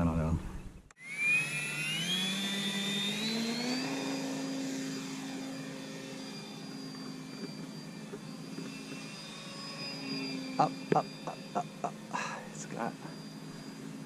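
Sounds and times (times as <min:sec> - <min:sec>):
electric model plane motor whine: 0:00.9 - 0:14.0.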